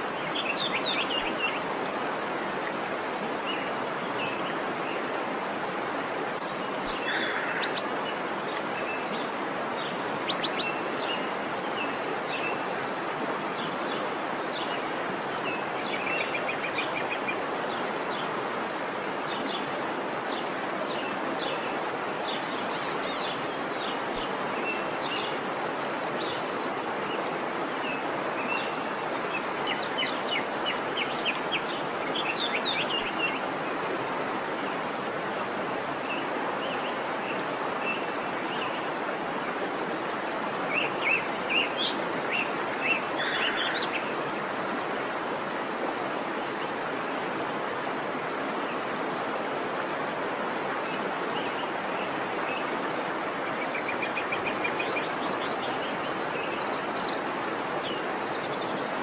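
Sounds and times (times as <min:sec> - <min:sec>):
river water rushing: 0:00.0 - 0:59.0
songbirds chirping: 0:00.0 - 0:59.0.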